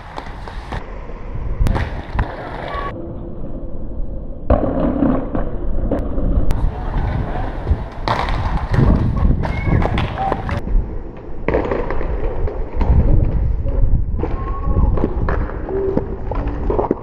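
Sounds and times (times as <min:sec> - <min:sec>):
inline skates rolling and grinding: 0:00.0 - 0:17.0
wind rumbling on microphone: 0:00.0 - 0:17.0.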